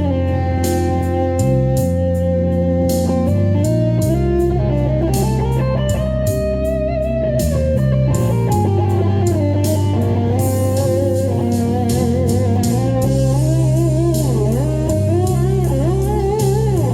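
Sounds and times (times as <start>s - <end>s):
backing track with bass and drums: 0.0s - 16.9s
electric guitar lead line: 0.0s - 16.9s.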